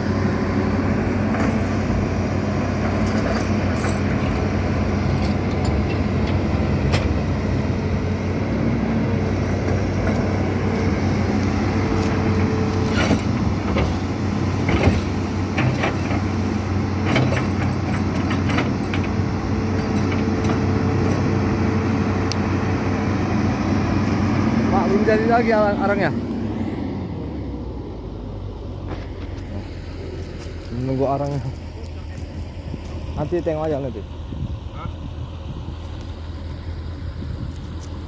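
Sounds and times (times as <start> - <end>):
diesel excavator engine running: 0.0 - 38.0.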